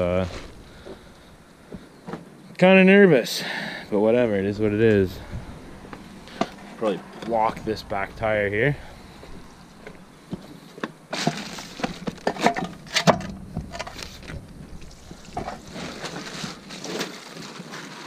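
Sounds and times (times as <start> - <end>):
footsteps on gravel: 0.0 - 2.2, 4.0 - 12.9, 13.5 - 17.6.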